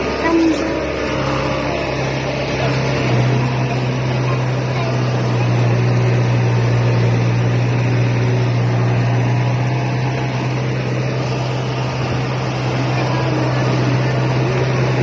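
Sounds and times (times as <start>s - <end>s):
harvester engine running: 0.0s - 15.0s.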